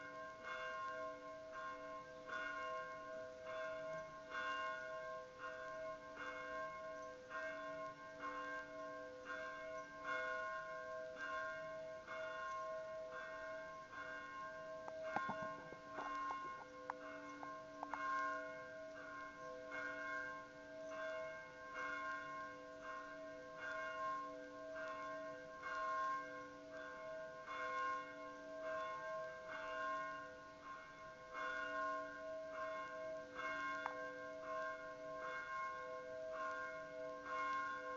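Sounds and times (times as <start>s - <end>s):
church bell ringing: 0.0s - 37.9s.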